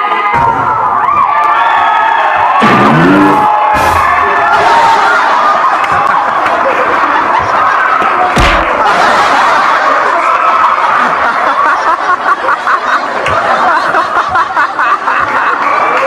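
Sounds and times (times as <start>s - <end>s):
crowd laughing and shouting: 0.0s - 16.0s.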